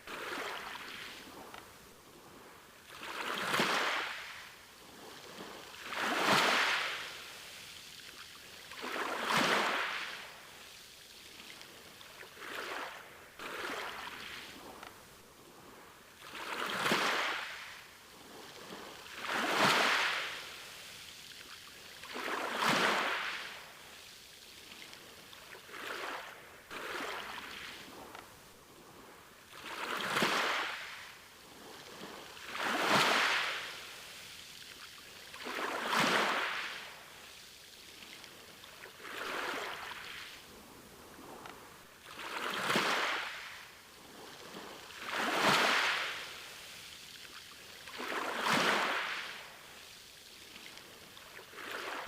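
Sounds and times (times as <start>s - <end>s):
sea waves breaking on beach: 0.0s - 52.0s.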